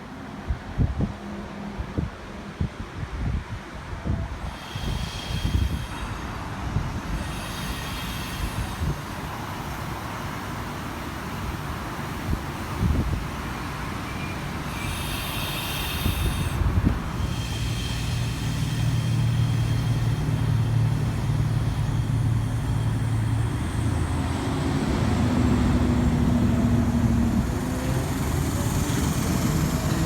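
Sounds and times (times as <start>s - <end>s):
high train whine: 0.0s - 30.0s
wheels rumbling on rail: 0.0s - 30.0s.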